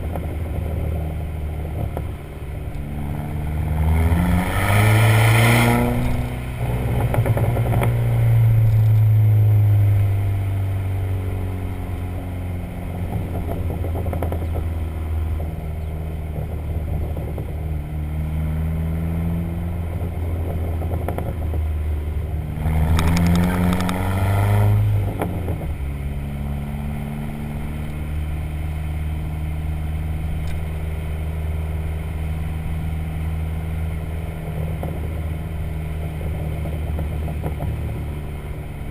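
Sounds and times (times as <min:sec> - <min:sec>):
car engine revving: 0:00.0 - 0:38.9
exhaust crackles and pops: 0:00.0 - 0:38.9.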